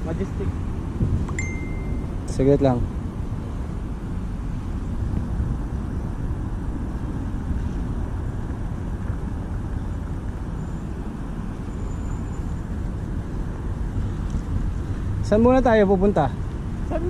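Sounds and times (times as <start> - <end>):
low rumbling outdoor noise: 0.0 - 17.0.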